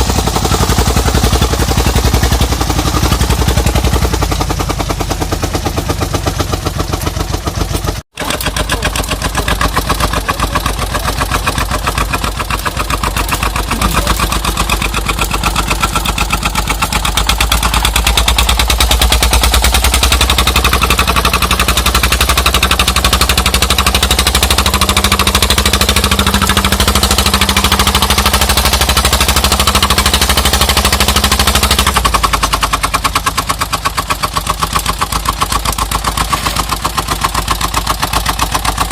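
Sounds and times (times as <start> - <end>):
diesel engine exhaust chugging: 0.0 - 38.9.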